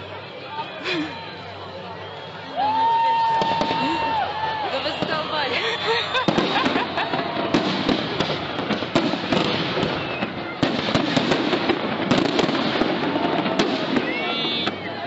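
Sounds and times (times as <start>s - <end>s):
fireworks crackling and popping: 2.6s - 15.0s.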